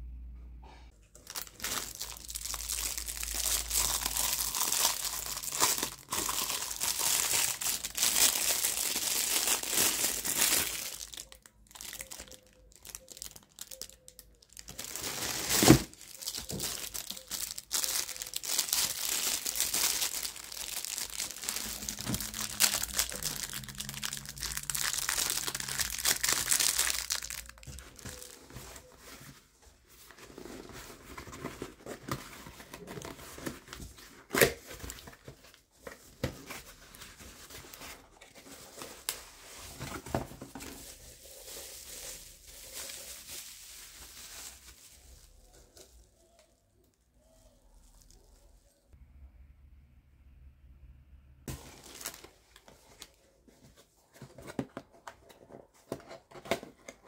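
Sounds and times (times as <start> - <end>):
plastic packaging crinkling: 1.1 - 29.4, 30.0 - 46.0, 51.5 - 53.2.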